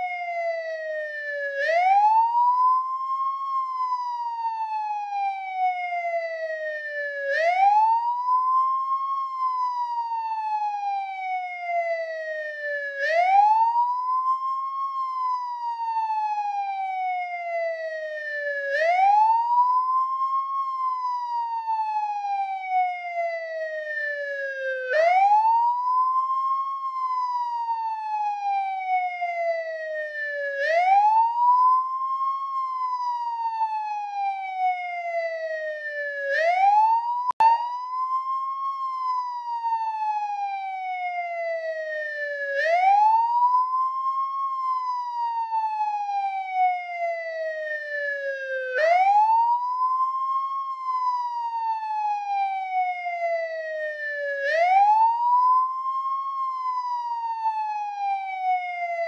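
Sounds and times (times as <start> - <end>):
police car siren wailing: 0.0 - 59.0.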